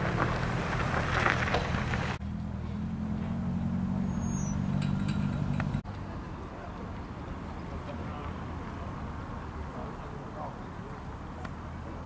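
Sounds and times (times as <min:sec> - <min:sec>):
outdoor bustle: 0:00.0 - 0:12.0.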